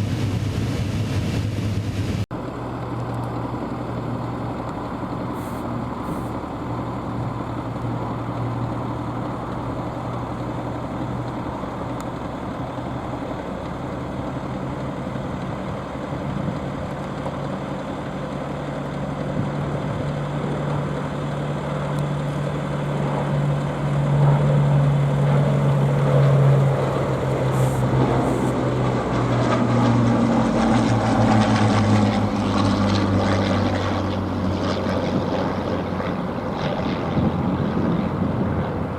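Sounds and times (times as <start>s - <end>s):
propeller aircraft engine running: 0.0s - 38.9s.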